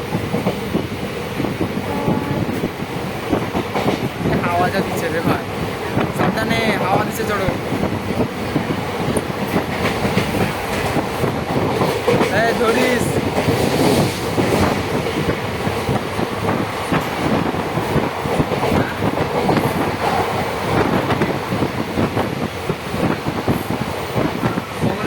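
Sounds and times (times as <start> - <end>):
rumble of train coaches: 0.0 - 25.0
train wheels clattering over rail joints: 2.5 - 25.0.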